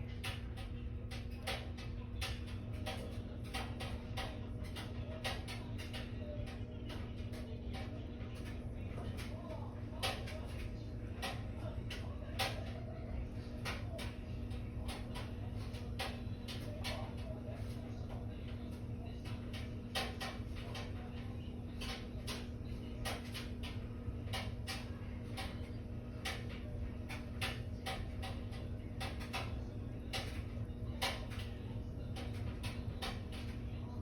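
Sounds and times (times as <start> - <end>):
steady low hum: 0.0 - 34.0
light clicks and taps: 0.1 - 33.9.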